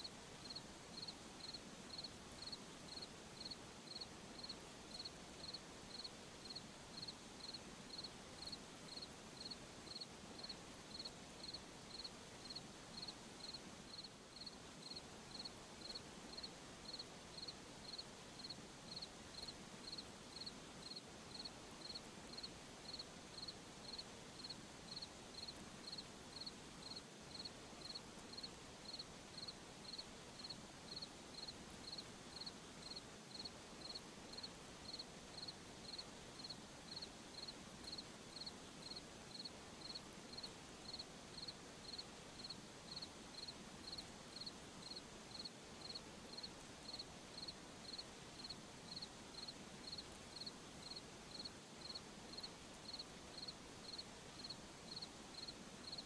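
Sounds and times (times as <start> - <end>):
cricket chirping faintly: 0.0 - 56.0
faint night ambience hiss: 0.0 - 56.0.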